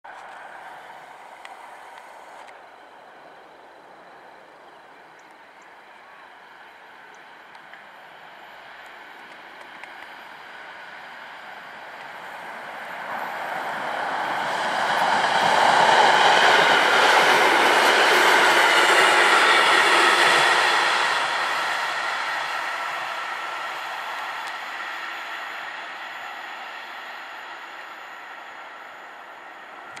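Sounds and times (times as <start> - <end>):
electric train passing by: 0.1 - 30.0.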